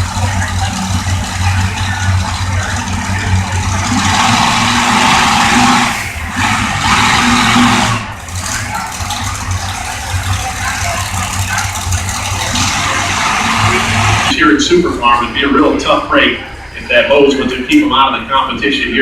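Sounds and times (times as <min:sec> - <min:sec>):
tractor engine low drone: 0:00.0 - 0:19.0.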